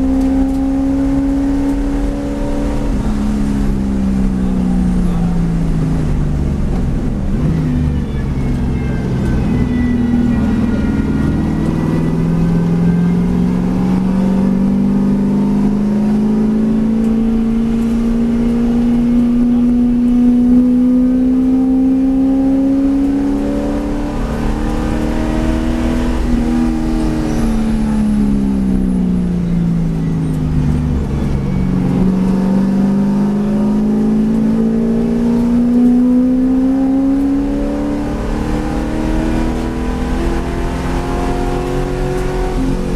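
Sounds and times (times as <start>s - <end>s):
race car engine: 0.0s - 42.9s.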